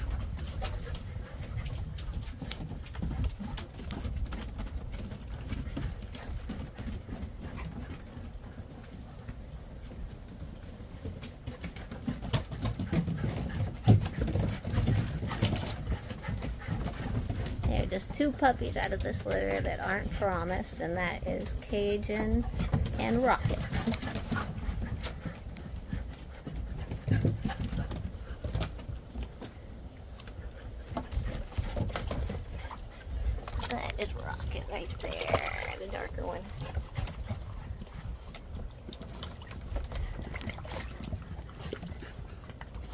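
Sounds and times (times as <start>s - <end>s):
puppy paws clicking on wooden deck: 0.0s - 42.9s.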